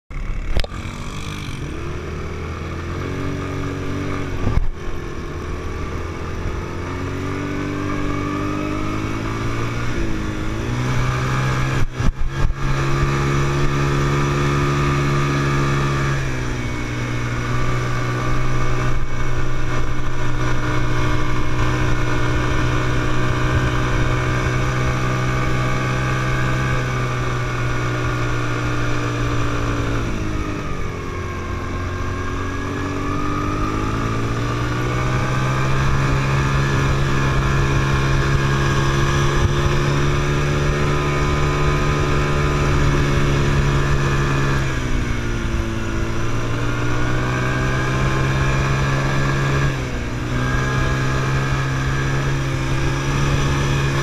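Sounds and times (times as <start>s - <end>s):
quad bike engine accelerating: 0.1s - 54.0s.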